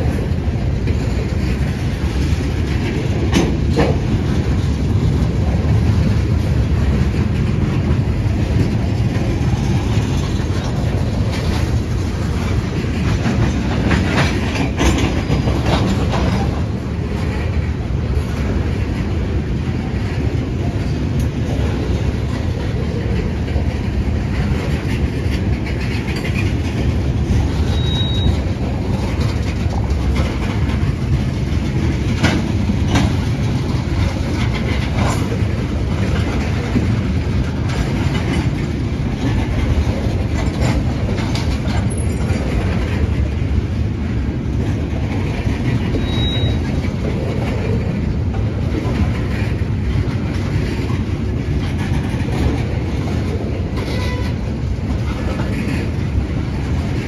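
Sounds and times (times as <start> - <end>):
train wheels rumbling on rails: 0.0 - 57.0
wheels clacking over rail joints: 0.0 - 57.0.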